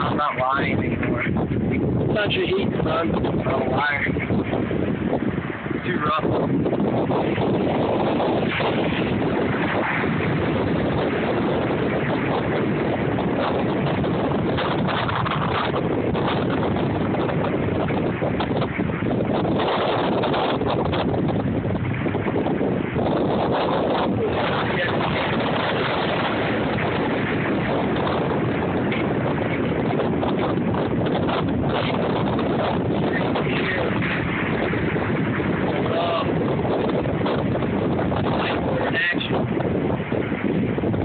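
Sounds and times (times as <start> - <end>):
ocean surf breaking: 0.0 - 41.0
wind on microphone: 0.0 - 41.0.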